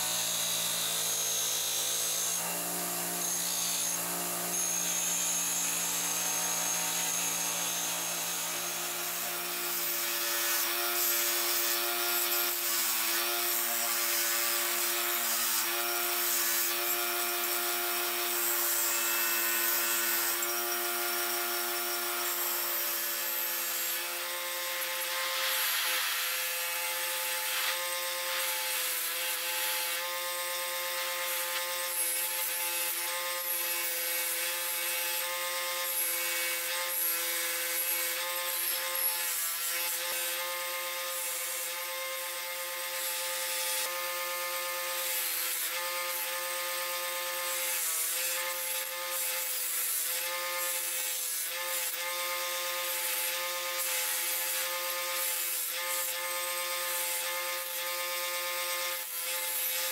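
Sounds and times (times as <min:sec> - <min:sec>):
bench grinder motor hum: 0:00.0 - 0:59.9.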